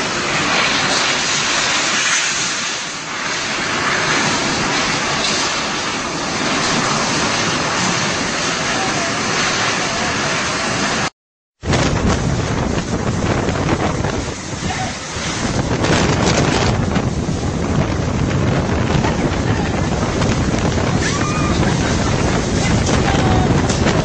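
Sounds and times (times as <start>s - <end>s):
strong wind buffeting microphone: 0.0s - 24.0s
wind-driven rain: 0.0s - 24.0s.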